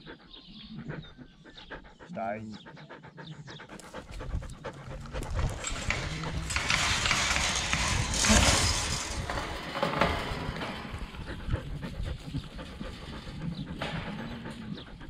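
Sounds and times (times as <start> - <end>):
dog panting: 0.0 - 8.2, 10.6 - 15.0.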